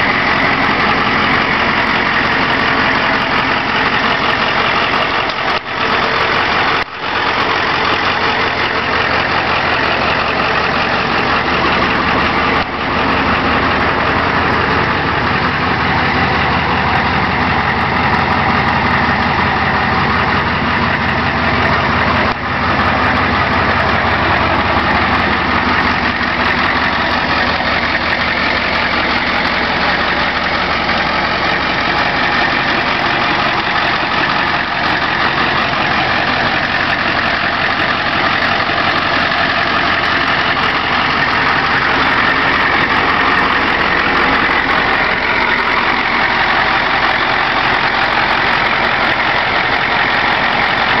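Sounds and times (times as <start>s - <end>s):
truck engine idling: 0.0s - 51.0s.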